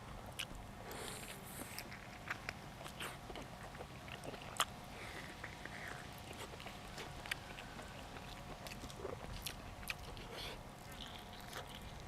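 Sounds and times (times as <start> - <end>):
chewing and gnawing: 0.0 - 12.0.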